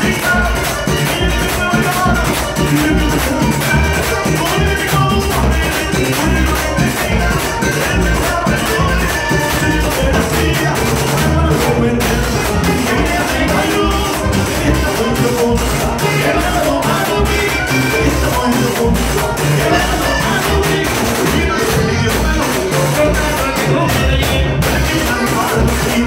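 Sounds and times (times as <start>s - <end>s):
bass and drums: 0.0s - 26.0s
button accordion melody: 0.0s - 26.0s
man singing into microphone: 0.0s - 26.0s
scraped guiro rhythm: 0.0s - 26.0s.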